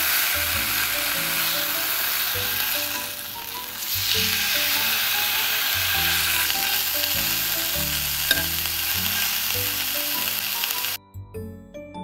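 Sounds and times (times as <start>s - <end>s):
chicken sizzling in a frying pan: 0.0s - 11.0s
soft background music: 0.0s - 12.0s.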